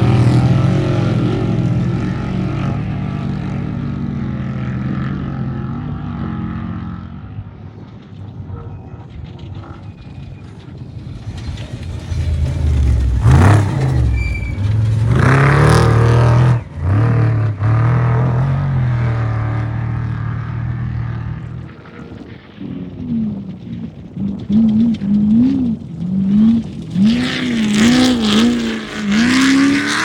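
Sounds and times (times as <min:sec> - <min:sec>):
off-road vehicle engine passing: 0:00.0 - 0:30.0.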